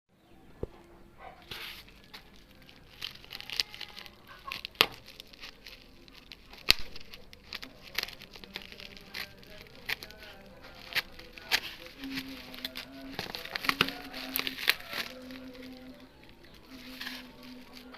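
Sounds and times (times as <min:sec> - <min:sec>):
packaging clicks: 0:01.4 - 0:17.9
plastic crinkling and tearing: 0:01.4 - 0:17.9.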